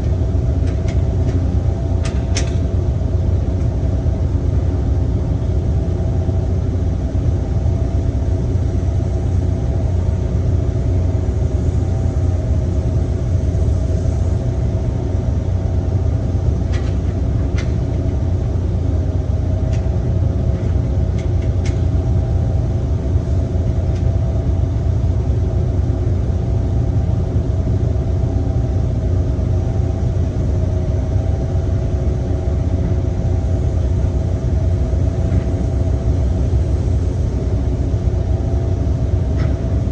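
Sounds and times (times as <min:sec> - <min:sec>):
diesel machinery engine droning: 0:00.0 - 0:39.9.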